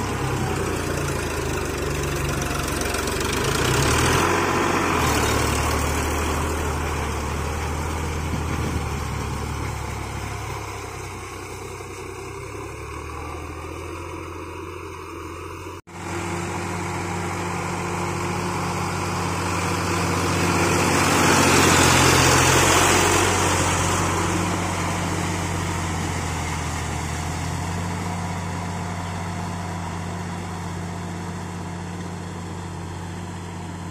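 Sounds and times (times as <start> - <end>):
tractor engine running under load: 0.0 - 33.9.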